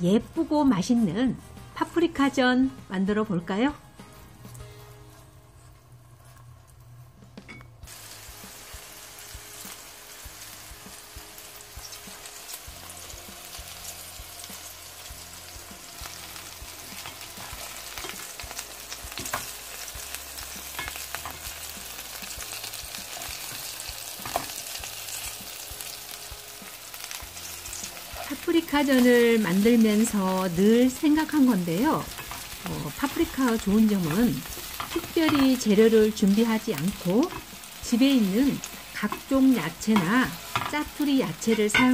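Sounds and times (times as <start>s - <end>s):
oil sizzling in a frying pan: 7.8s - 41.9s.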